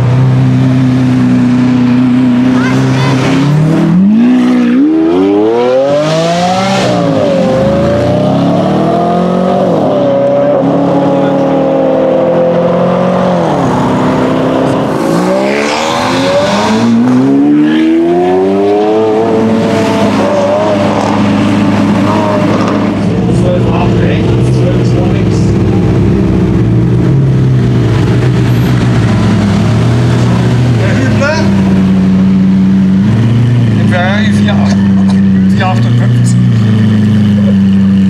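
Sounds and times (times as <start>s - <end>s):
sports car engines accelerating: 0.0s - 38.0s.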